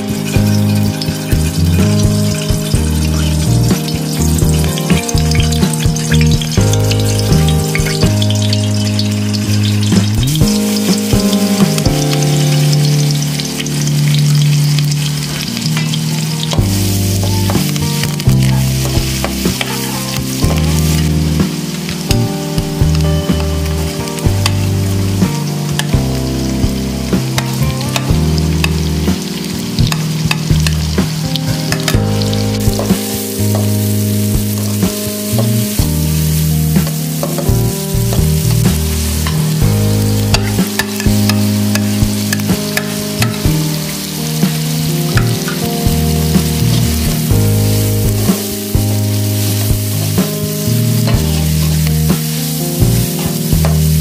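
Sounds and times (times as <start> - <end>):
vegetables sizzling in hot oil: 0.0 - 54.0.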